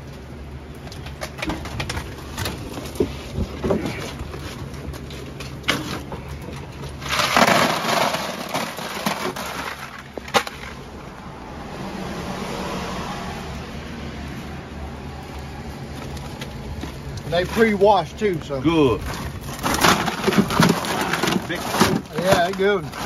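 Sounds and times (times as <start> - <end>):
oysters and ice clattering: 0.0 - 11.3, 14.3 - 23.0.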